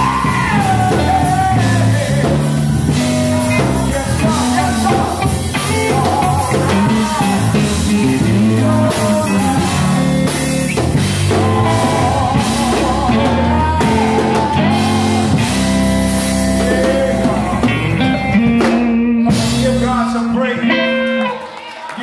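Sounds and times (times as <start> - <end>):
man singing gospel song: 0.0 - 21.1
live band accompaniment: 0.0 - 22.0.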